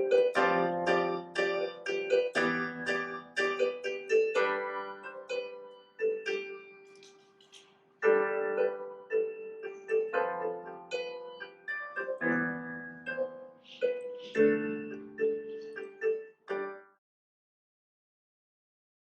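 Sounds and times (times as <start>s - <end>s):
piano melody over chords: 0.0s - 7.0s, 8.0s - 16.9s.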